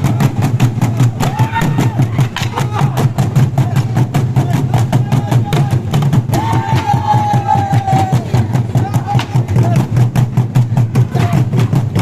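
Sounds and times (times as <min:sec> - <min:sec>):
drums beaten in fast rhythm: 0:00.0 - 0:12.0.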